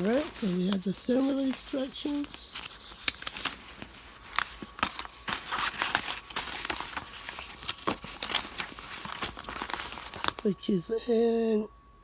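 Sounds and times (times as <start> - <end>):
paper rustling and crinkling: 0.0 - 10.6.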